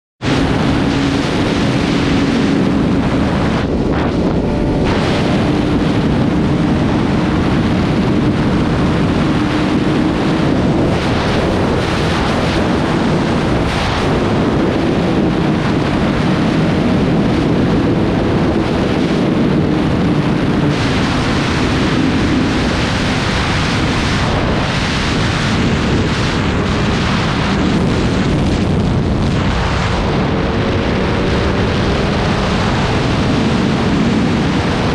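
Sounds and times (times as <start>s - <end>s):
motorcycle engine running: 0.2s - 34.9s
wind rushing over microphone: 0.2s - 34.9s.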